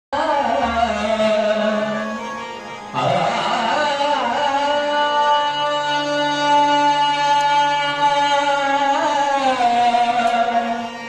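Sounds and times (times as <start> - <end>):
devotional music held notes: 0.2 - 11.0.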